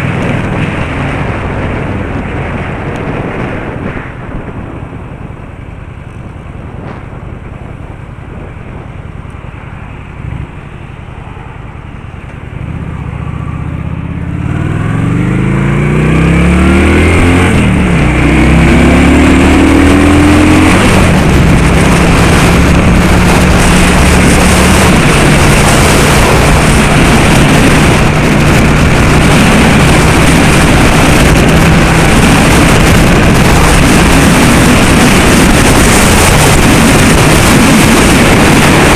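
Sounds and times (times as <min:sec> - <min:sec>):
road and wind noise: 0:00.0 - 0:38.9
car engine accelerating: 0:06.5 - 0:38.9.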